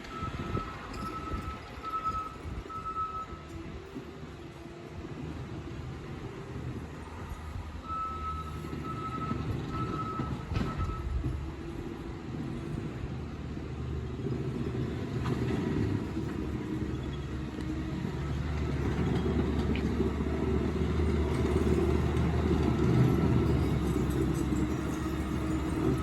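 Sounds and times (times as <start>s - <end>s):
skid steer engine rumbling: 0.0s - 26.0s.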